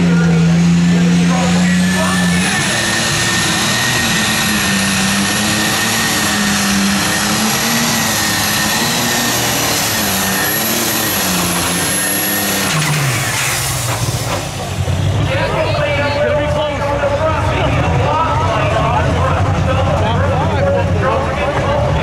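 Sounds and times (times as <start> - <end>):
tractor diesel engine at full power: 0.0 - 22.0
turbocharger whine: 0.0 - 22.0.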